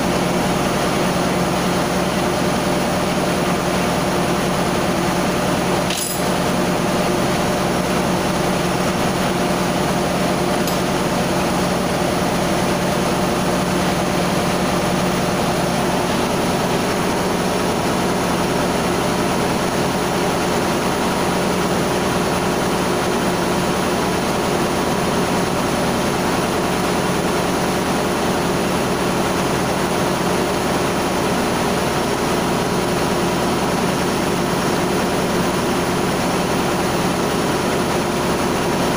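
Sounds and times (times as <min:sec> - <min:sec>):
engine-room machinery drone: 0:00.0 - 0:38.9.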